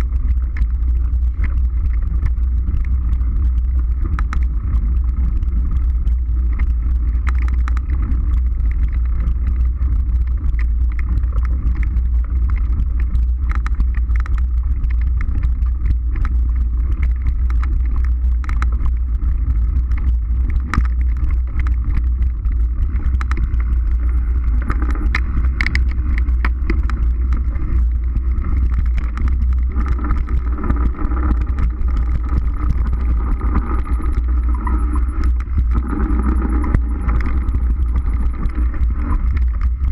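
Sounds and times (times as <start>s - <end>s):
bike rattles and clicks: 0.0s - 39.9s
wind rumble on microphone: 0.0s - 39.9s.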